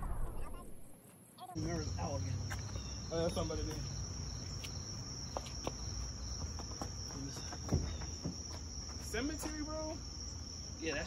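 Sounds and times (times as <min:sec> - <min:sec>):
low outdoor hum: 0:00.0 - 0:11.0
crickets trilling: 0:00.1 - 0:11.0.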